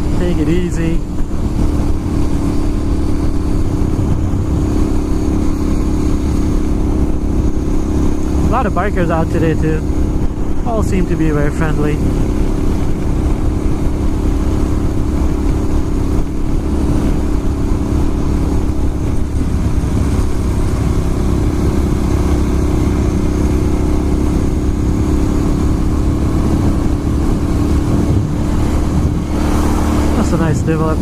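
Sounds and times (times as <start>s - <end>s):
motorcycle engine cruising: 0.0s - 31.0s.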